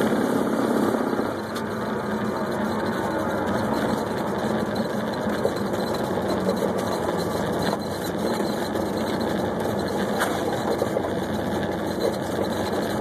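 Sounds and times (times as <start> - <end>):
light aircraft engine running: 0.0 - 13.0.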